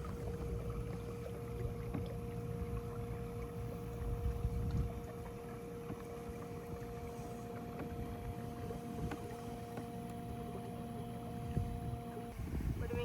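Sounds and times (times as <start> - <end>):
low rumble of water: 0.0 - 13.0.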